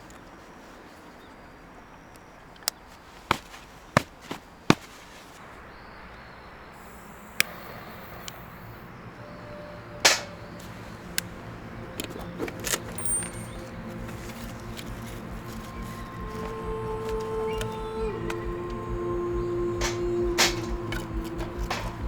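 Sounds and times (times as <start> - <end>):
faint hiss: 0.0 - 22.0
low steady hum: 0.0 - 22.0.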